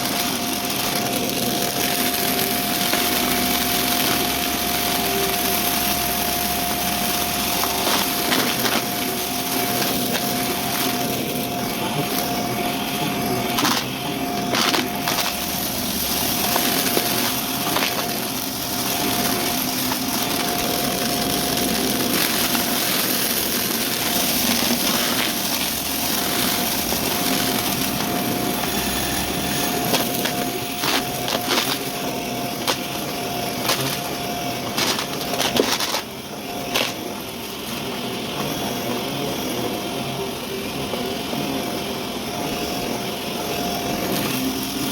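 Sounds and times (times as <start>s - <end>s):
debris crunching in vacuum: 0.0s - 38.7s
vacuum cleaner motor whine: 0.0s - 44.9s.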